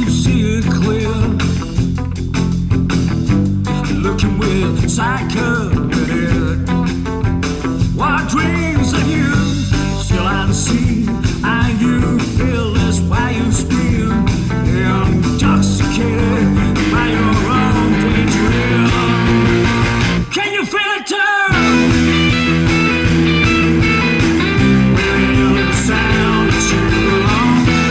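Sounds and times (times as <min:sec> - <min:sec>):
bending lead guitar line: 0:00.0 - 0:20.4, 0:21.5 - 0:27.9
rock band backing: 0:00.0 - 0:20.5, 0:21.5 - 0:27.9.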